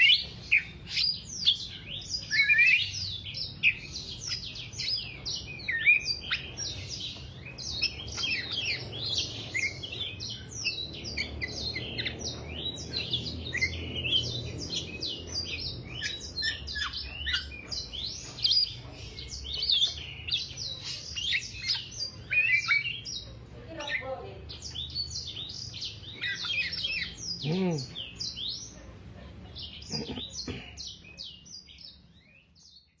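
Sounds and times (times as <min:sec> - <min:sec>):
bird singing rapid chatter: 0:00.0 - 0:33.0.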